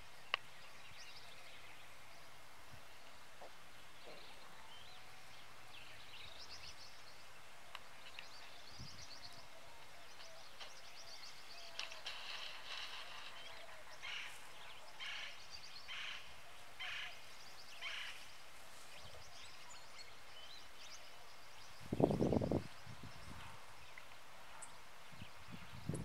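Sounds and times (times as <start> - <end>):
small birds chirping and trilling: 0.0 - 26.0
steady outdoor hiss: 0.0 - 26.0.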